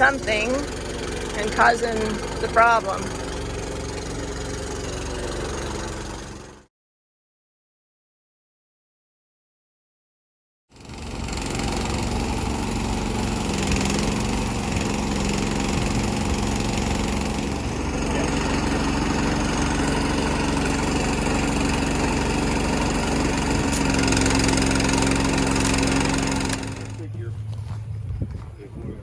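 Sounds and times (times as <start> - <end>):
engine running steadily: 0.0 - 6.7, 10.8 - 29.0.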